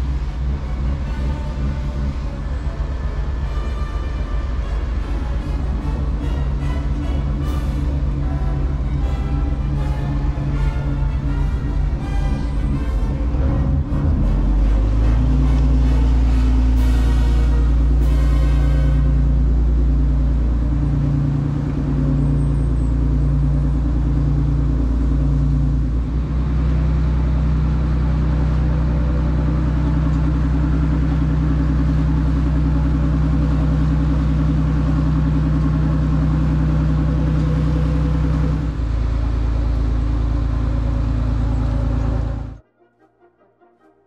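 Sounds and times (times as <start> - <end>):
diesel boat engine droning: 0.0 - 44.0.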